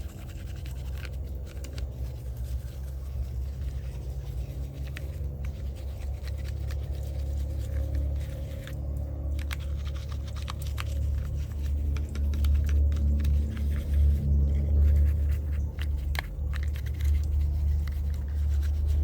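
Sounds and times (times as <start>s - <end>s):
light clicks and scrapes: 0.0s - 19.0s
low machine hum: 0.0s - 19.0s.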